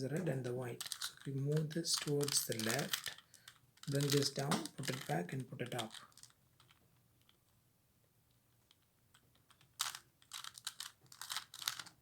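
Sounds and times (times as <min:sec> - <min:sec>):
puzzle cube clicking as turned: 0:00.2 - 0:07.4, 0:08.7 - 0:12.0.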